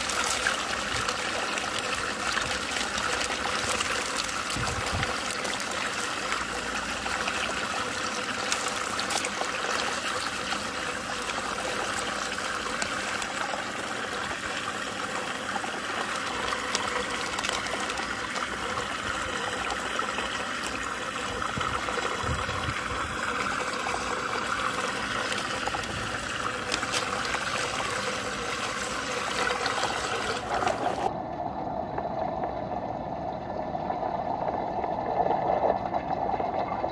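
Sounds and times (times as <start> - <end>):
trickling water: 0.0 - 36.9.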